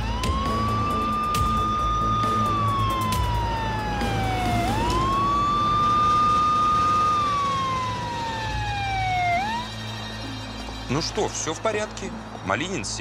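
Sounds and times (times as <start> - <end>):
police siren wailing: 0.0 - 12.6
low rumble of traffic: 0.0 - 13.0.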